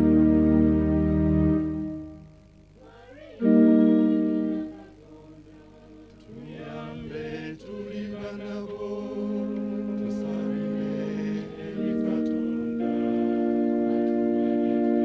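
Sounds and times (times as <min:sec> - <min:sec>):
electronic keyboard: 0:00.0 - 0:05.0, 0:06.2 - 0:15.0
choir singing a chant: 0:02.8 - 0:15.0.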